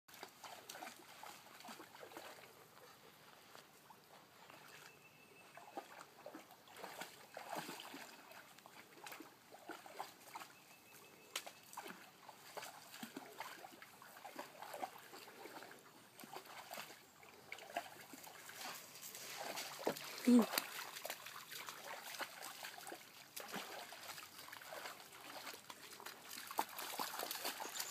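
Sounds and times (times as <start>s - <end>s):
dog splashing in water: 0.1s - 3.6s, 5.6s - 10.5s, 11.4s - 27.9s.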